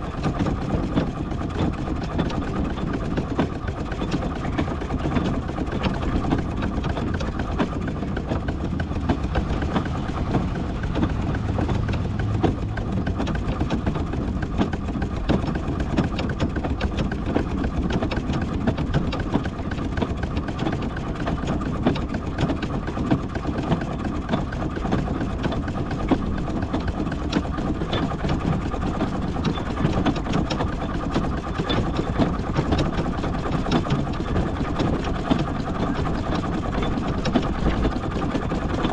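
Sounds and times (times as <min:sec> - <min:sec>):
steam traction engine clattering: 0:00.0 - 0:38.9.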